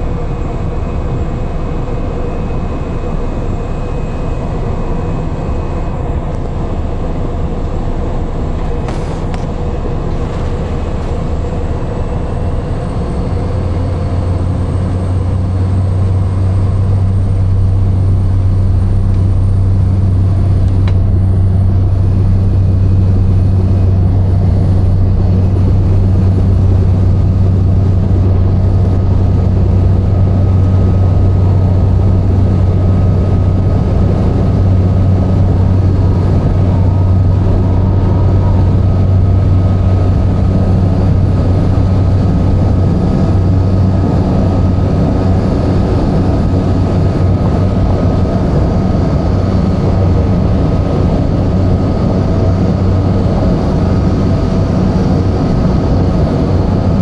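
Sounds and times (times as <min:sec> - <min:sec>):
faint high whine: 0:00.0 - 0:57.0
turboprop engine and propeller drone: 0:00.0 - 0:57.0.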